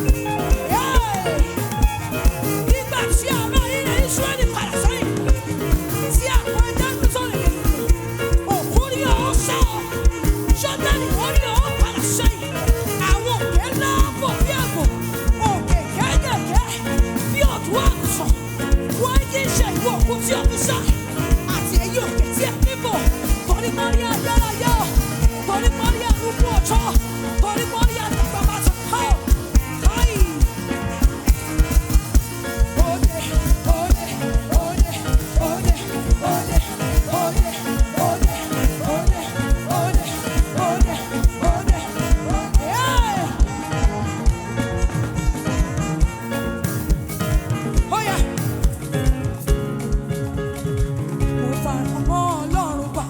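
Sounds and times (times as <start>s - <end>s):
driving drum beat: 0.0s - 53.0s
melodic lead line: 0.0s - 53.0s
praise band playing dance groove: 0.0s - 53.0s.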